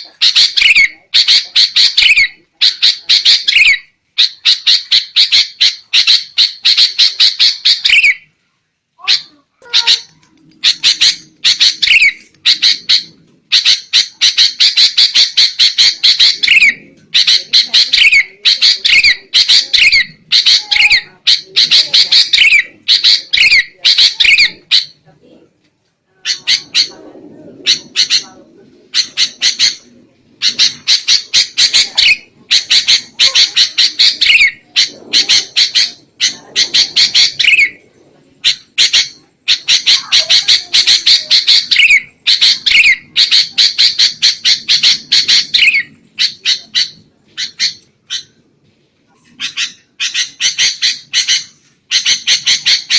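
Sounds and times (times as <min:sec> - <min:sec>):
bird harsh chattering calls: 0:00.0 - 0:08.3, 0:09.0 - 0:25.0, 0:26.2 - 0:48.4, 0:49.3 - 0:52.9.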